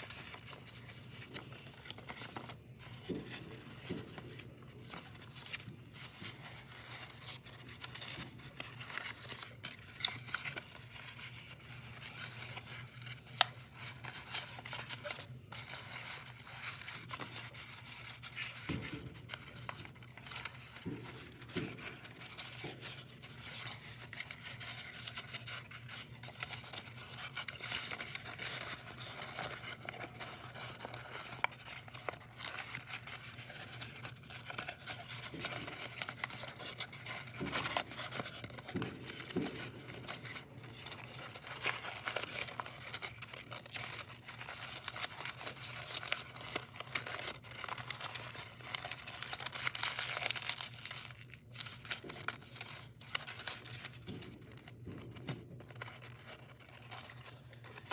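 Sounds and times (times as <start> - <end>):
paper rustling and crinkling: 0.0 - 57.9.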